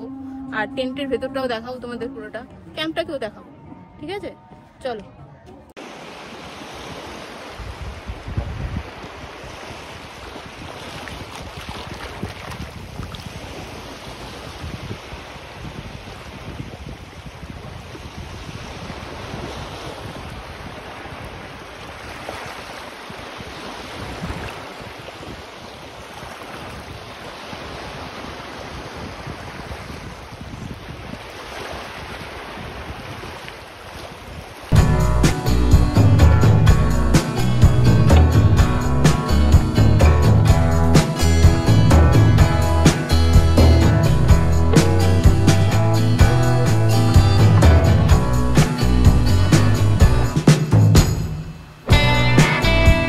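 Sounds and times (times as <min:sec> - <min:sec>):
wind buffeting microphone: 0:00.0 - 0:05.7, 0:06.5 - 0:50.3
sea surf washing ashore: 0:05.8 - 0:53.0.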